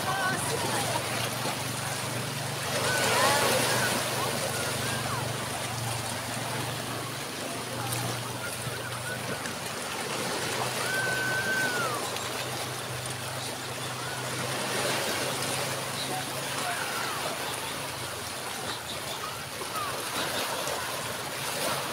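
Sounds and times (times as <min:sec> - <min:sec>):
water washing over rocks: 0:00.0 - 0:21.9.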